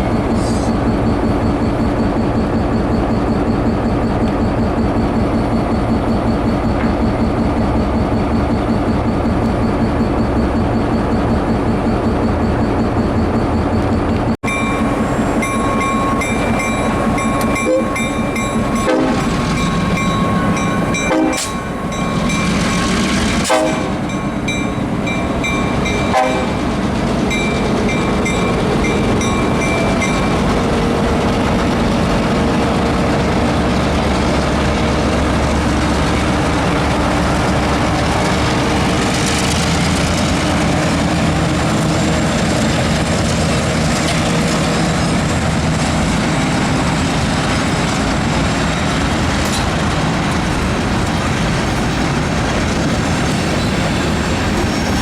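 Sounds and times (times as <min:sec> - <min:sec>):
crossing bell ringing: 0:00.0 - 0:55.0
train rumbling: 0:00.0 - 0:55.0.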